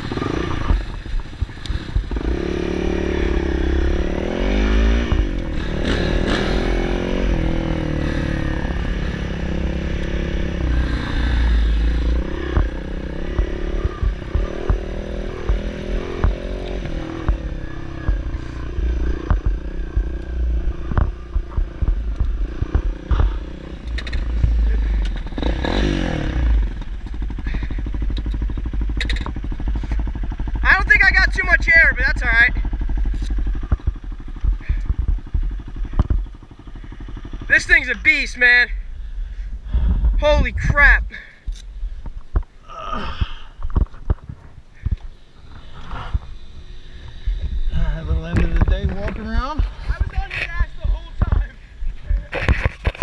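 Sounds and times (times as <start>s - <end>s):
dirt bike engine revving: 0.0s - 41.7s, 44.8s - 53.0s.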